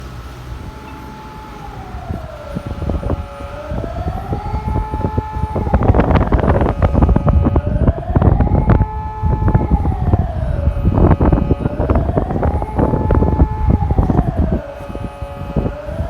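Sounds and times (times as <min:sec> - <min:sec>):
emergency siren slow wail: 0:00.0 - 0:16.0
loud low rumble and crackling: 0:00.0 - 0:16.0.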